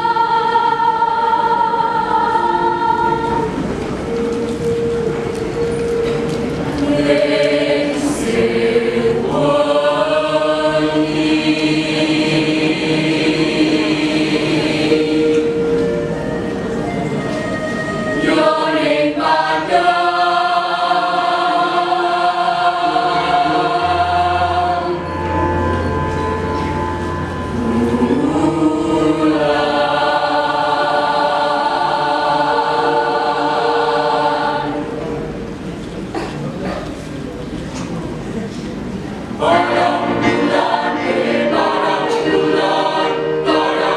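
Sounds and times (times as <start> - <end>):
choir singing sustained chords: 0.0 - 36.3, 39.1 - 43.9.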